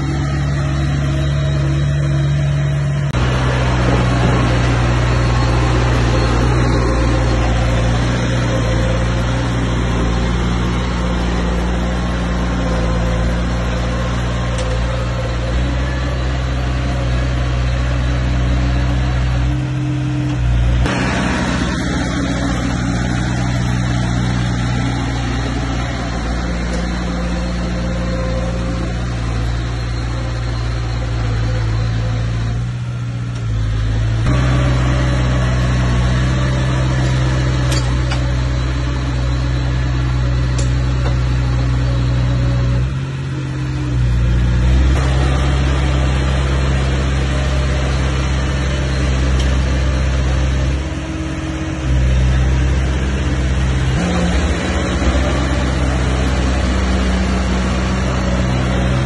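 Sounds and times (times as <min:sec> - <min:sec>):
bulldozer diesel engine under load: 0:00.0 - 0:59.0.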